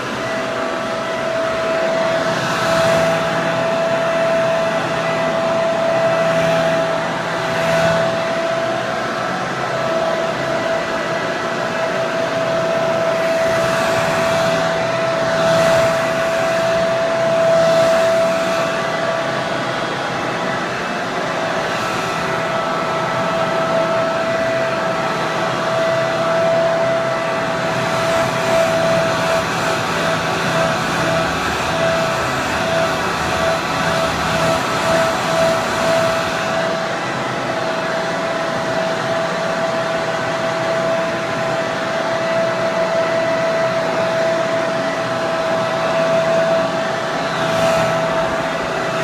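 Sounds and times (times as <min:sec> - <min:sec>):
hair dryer running: 0:00.0 - 0:49.0.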